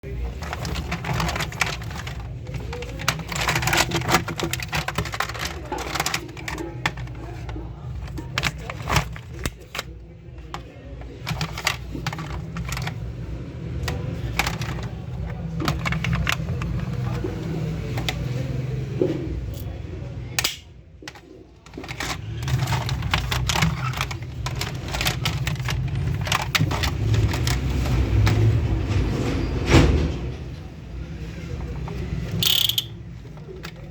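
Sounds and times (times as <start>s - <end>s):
plastic and metal parts clicking: 0.0s - 18.4s, 20.4s - 28.9s, 31.5s - 33.9s.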